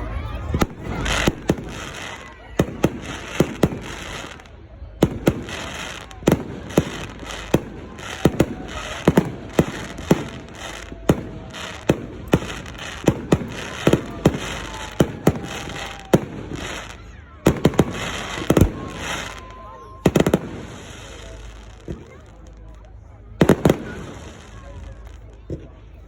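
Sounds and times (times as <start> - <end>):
faint firework whistling: 0.0 - 22.8
firework bangs: 0.0 - 26.0
firework crackling: 0.0 - 26.0.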